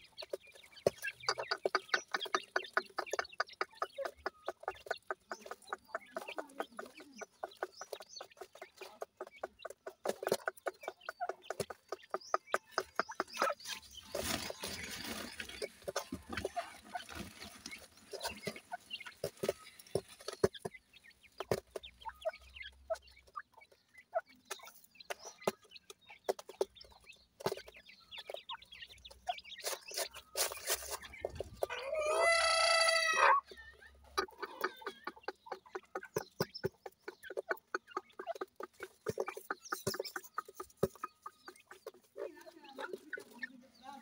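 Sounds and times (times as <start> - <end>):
birds pecking on dirt: 0.0 - 44.0.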